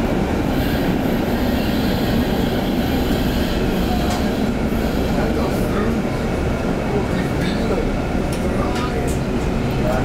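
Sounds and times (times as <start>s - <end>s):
tram rumbling on track: 0.0s - 10.0s.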